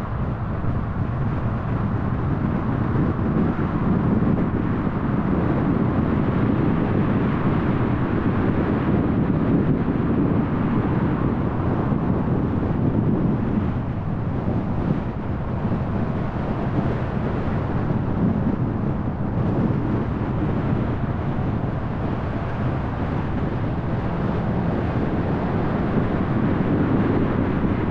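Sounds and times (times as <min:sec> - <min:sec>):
car engine hum: 0:00.0 - 0:27.9
road and tyre noise: 0:00.0 - 0:27.9.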